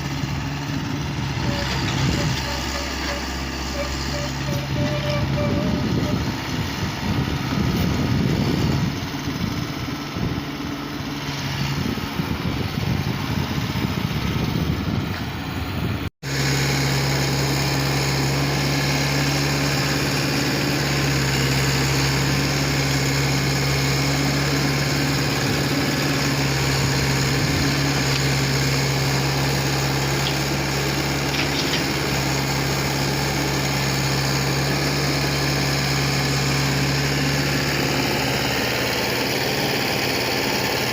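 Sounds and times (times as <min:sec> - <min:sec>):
heavy machinery diesel engine running: 0:00.0 - 0:40.9.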